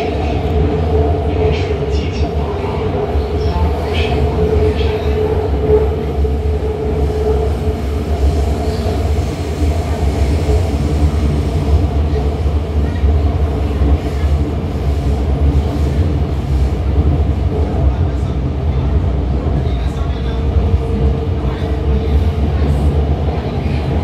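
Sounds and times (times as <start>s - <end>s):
train rumbling at speed: 0.0s - 24.0s.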